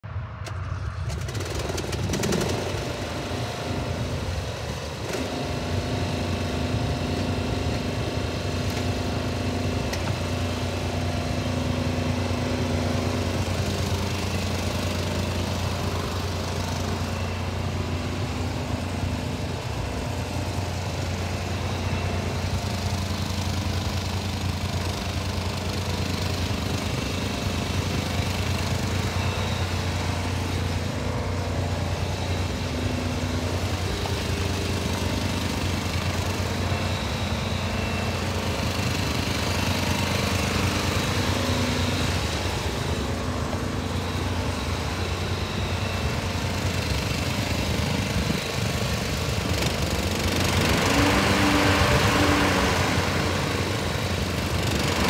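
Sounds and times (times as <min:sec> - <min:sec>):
riding lawn mower engine: 0:00.0 - 0:55.0.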